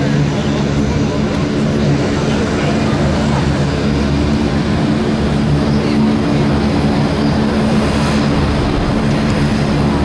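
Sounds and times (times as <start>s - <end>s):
aircraft engine drone: 0.0s - 10.0s.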